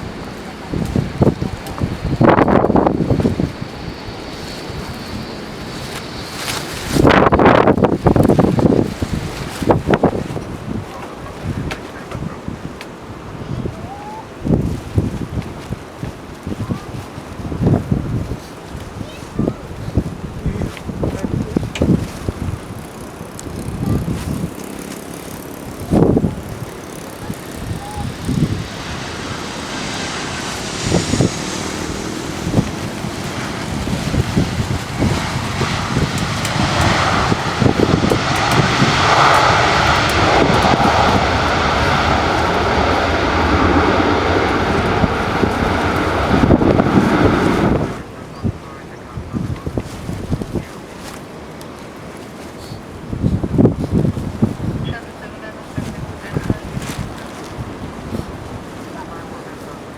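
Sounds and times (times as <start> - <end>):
jet airliner engines: 0.0 - 59.9
wind buffeting microphone: 0.0 - 59.9.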